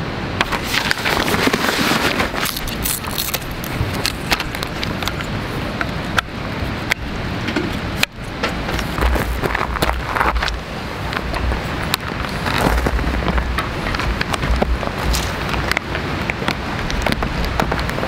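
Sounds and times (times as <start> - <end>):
plastic bag rustling and crinkling: 0.4 - 5.7, 8.7 - 18.0.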